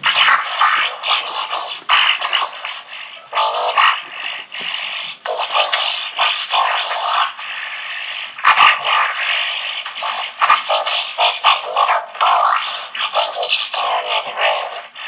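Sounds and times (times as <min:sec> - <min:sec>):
scratching and scraping noises: 0:00.0 - 0:15.0.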